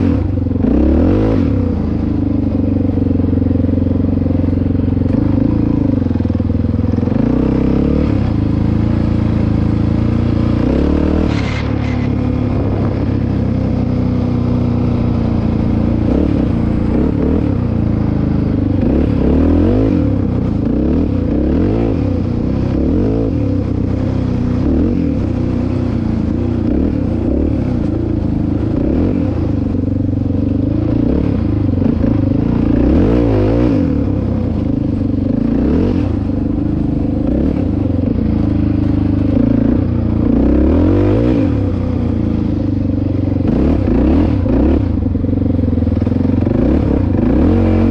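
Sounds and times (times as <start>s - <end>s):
dirt bike engine revving: 0.0s - 42.7s, 43.3s - 47.9s.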